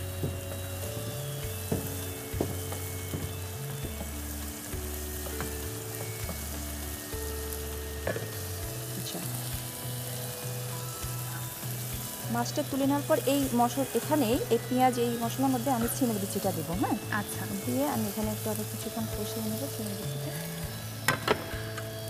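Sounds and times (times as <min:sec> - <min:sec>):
fish sizzling in a frying pan: 0:00.0 - 0:22.0
soft background music with bass: 0:00.0 - 0:22.0.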